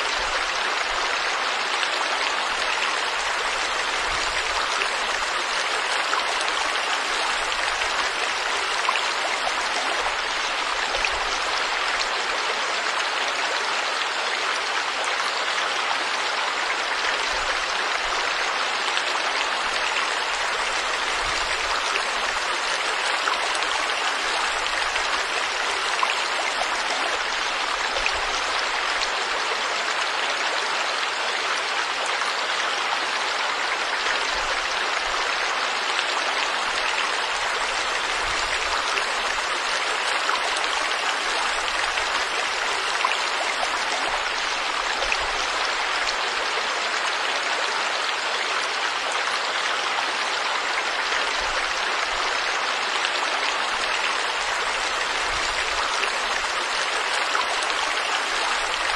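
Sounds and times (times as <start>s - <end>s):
river water rushing: 0.0s - 58.9s.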